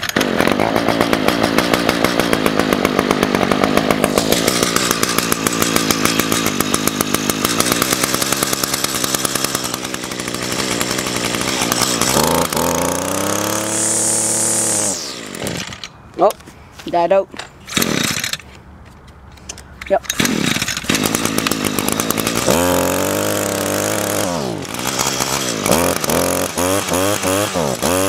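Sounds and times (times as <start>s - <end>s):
string trimmer engine running: 0.0s - 16.4s, 17.6s - 18.6s, 20.0s - 28.0s.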